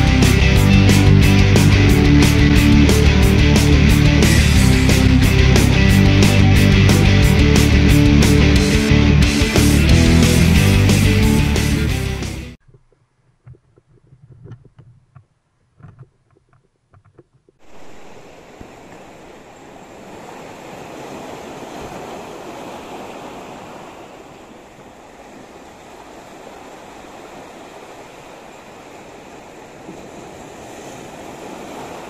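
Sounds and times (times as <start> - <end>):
sea surf breaking on rocks: 0.0 - 11.7, 17.6 - 32.0.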